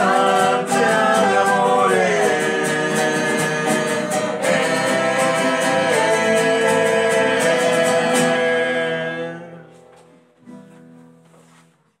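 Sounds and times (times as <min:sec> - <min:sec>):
person singing: 0:00.0 - 0:09.8
strummed guitar: 0:00.0 - 0:11.8.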